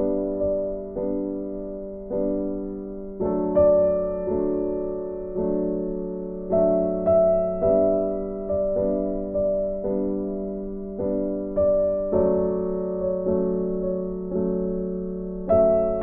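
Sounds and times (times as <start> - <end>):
slow gentle piano piece: 0.0 - 16.0.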